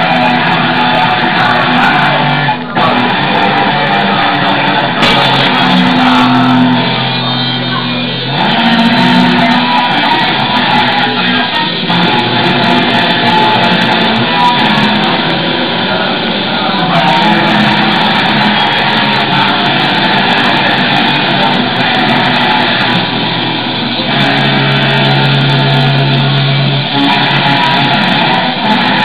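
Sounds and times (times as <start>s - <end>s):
loud rock music with electric guitar: 0.0s - 29.0s.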